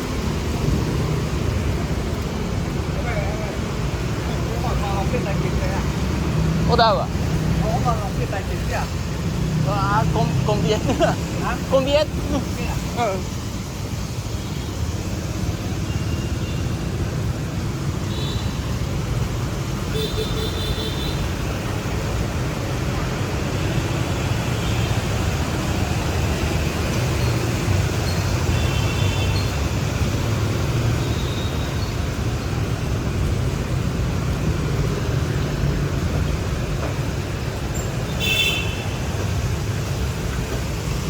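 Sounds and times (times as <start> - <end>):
traffic rumble: 0.0 - 41.0.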